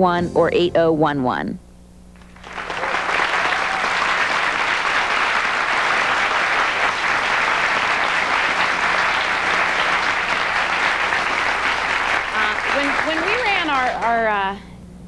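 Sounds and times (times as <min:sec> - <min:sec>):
audience applauding: 0:02.2 - 0:14.3.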